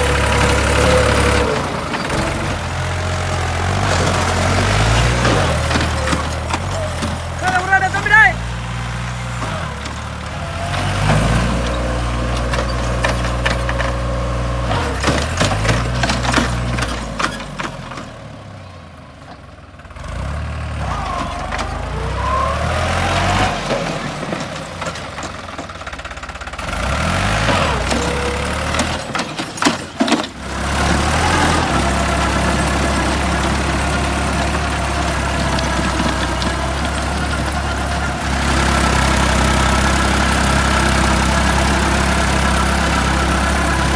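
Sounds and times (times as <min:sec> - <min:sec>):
tractor engine revving: 0:00.0 - 0:18.5, 0:19.7 - 0:43.9.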